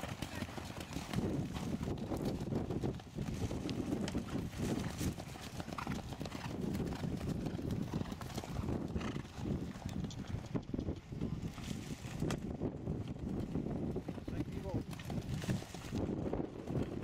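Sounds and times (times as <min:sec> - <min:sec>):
horse hoofbeats on grass: 0:00.0 - 0:17.0.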